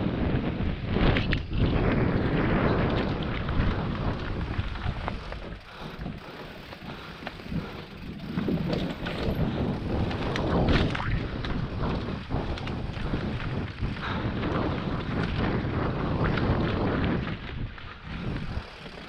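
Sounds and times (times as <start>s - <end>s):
bike tyre noise on dirt: 0.0s - 19.0s
wind rushing over microphone: 0.0s - 19.0s
bike rattling clicks: 0.8s - 19.0s.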